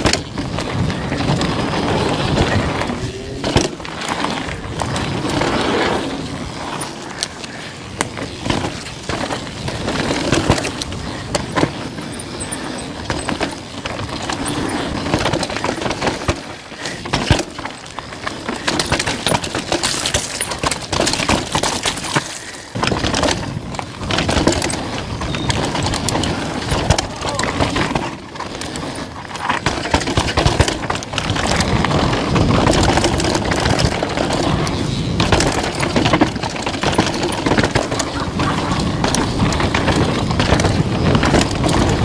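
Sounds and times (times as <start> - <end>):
bike chain and frame rattling: 0.0 - 42.0
tyres running over stones: 0.2 - 42.0.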